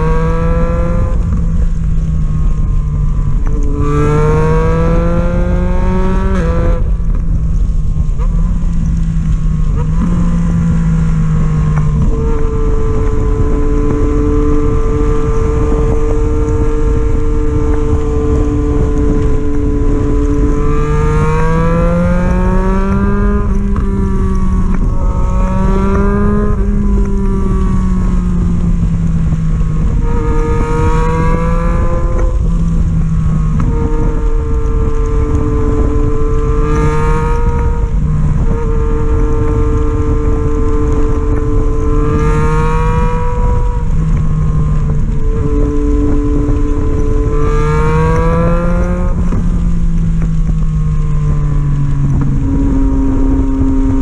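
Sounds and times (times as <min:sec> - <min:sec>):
motorcycle engine revving through gears: 0:00.0 - 0:54.0
wind noise: 0:00.0 - 0:54.0.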